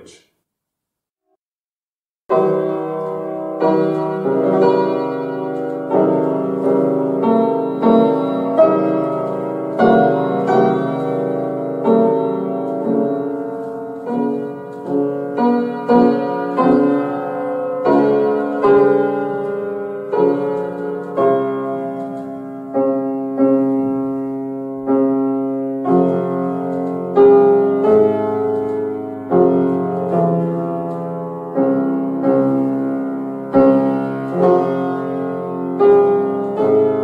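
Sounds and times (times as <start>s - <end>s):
fortepiano playing slow chords: 2.3s - 37.0s.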